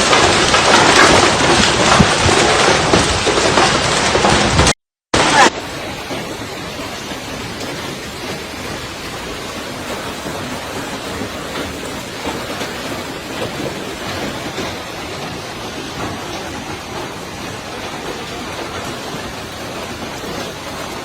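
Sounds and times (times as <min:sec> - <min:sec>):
hail and heavy rain falling: 0:00.0 - 0:21.0.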